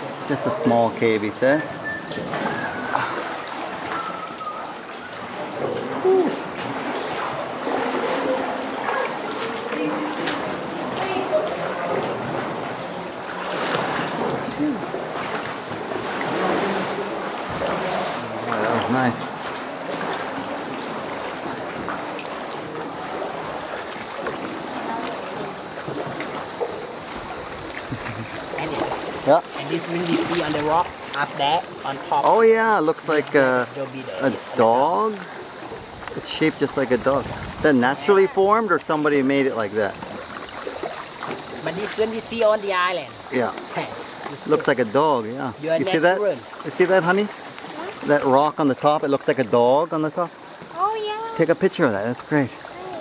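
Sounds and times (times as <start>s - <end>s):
water splashing around canoe: 0.0s - 53.0s.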